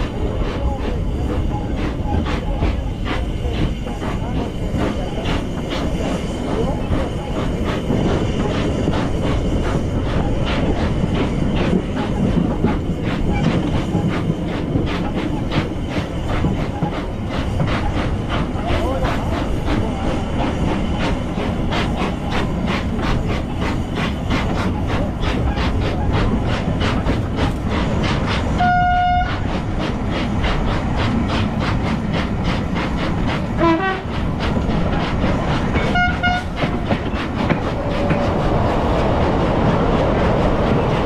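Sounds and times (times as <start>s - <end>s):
steam locomotive rumbling on track: 0.0s - 41.0s.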